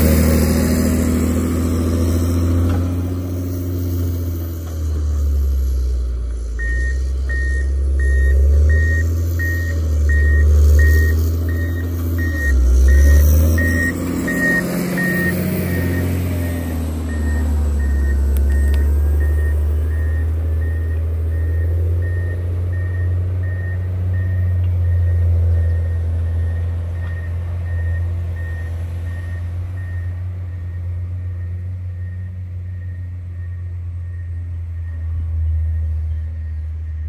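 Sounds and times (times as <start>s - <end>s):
diesel engine under load: 0.0s - 37.0s
reverse alarm beeping: 6.6s - 37.0s.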